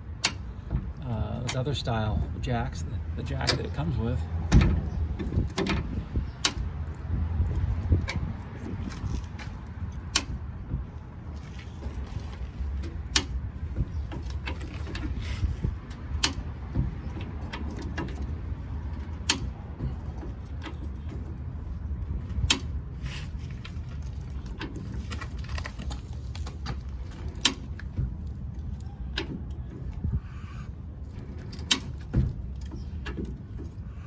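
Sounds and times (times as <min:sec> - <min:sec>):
car jack metal clicks and clanks: 0:00.0 - 0:01.9, 0:03.2 - 0:30.1, 0:30.7 - 0:34.0
steady low rumble: 0:00.0 - 0:34.0.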